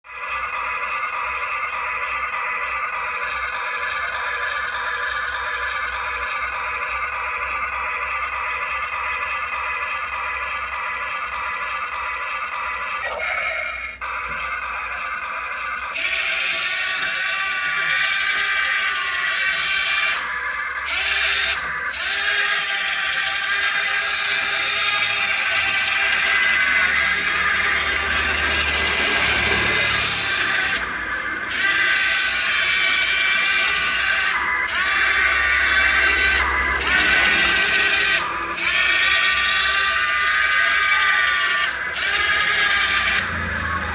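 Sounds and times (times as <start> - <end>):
electric motors and pump whining: 0.0 - 43.9.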